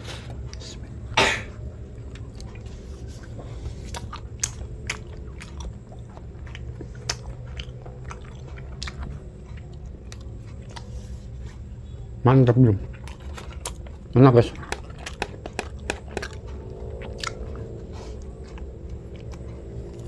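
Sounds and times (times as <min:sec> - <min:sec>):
person chewing bread: 0:00.0 - 0:11.9, 0:12.8 - 0:20.0.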